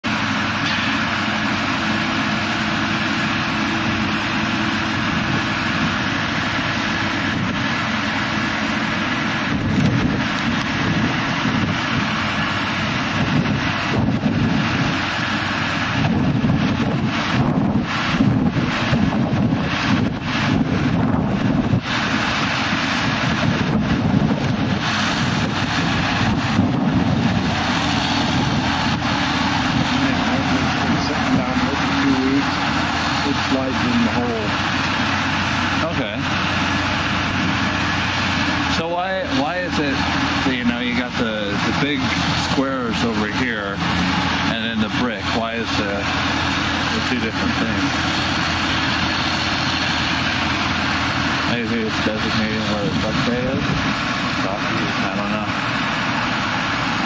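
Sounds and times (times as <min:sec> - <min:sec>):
engine running: 0:00.0 - 0:57.0
wind noise on microphone: 0:03.0 - 0:55.7.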